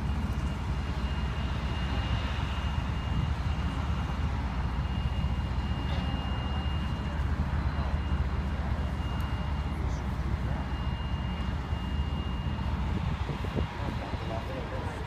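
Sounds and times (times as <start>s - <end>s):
idling engines and traffic rumble: 0.0s - 15.0s.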